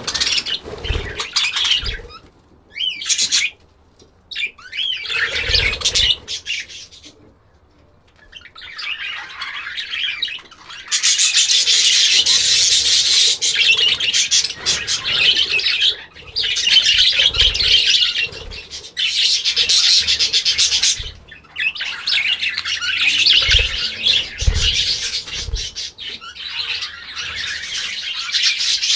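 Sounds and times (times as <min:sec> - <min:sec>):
birds chirping and chattering: 0:00.0 - 0:28.9.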